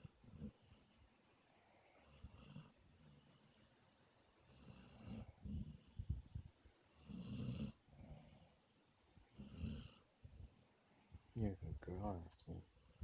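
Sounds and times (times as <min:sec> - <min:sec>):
quiet breathing: 0:00.0 - 0:13.0.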